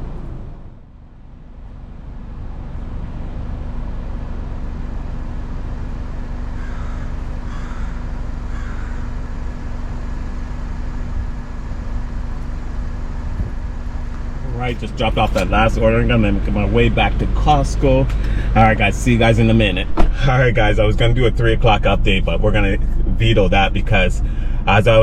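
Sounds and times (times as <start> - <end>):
car road noise: 0.0 - 25.0.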